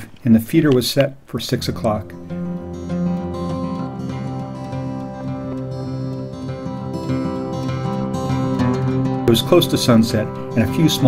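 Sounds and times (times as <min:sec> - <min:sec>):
acoustic guitar music: 0:01.4 - 0:11.0.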